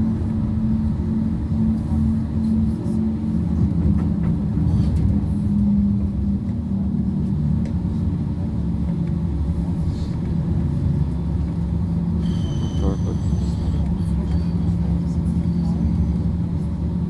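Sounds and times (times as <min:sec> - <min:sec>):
tram running rumble: 0:00.0 - 0:17.0.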